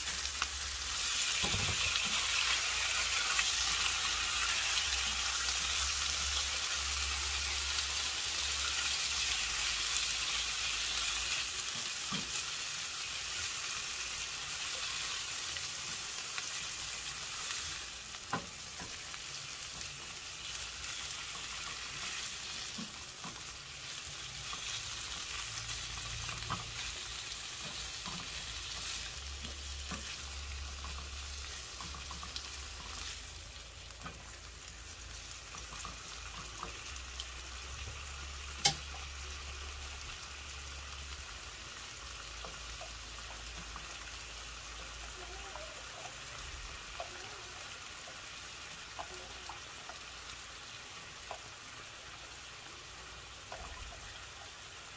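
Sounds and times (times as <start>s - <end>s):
meat and onion sizzling in a pan: 0.0s - 54.9s.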